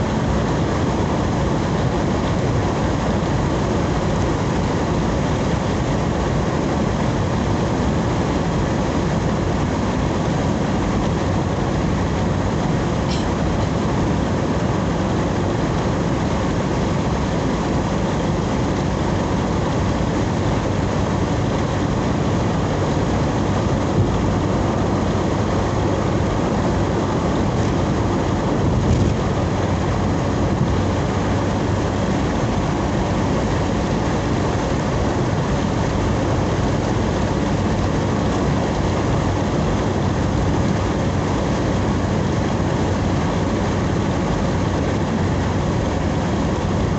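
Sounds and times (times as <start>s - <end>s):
road and engine noise in cabin: 0.0s - 46.9s.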